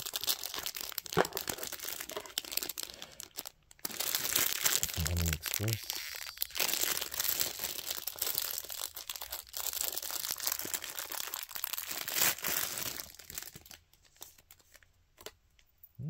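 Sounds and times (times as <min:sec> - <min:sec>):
plastic bag crinkling: 0:00.0 - 0:14.9.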